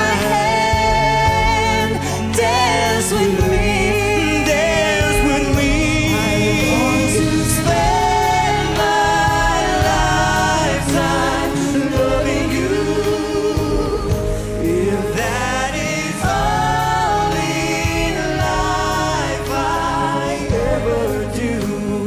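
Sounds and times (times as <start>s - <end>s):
backing singers: 0.0s - 22.0s
man and woman singing duet: 0.0s - 22.0s.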